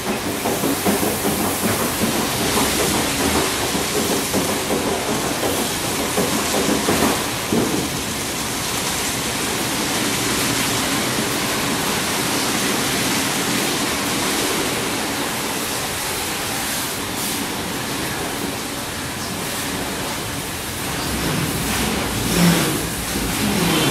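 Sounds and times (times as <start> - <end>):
car wash brushes and water spray: 0.0 - 23.9.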